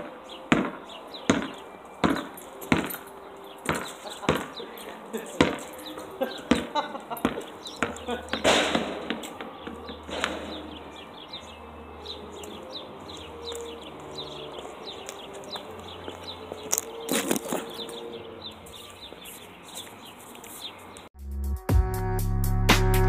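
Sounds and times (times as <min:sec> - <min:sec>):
small birds chirping: 0:00.0 - 0:21.1.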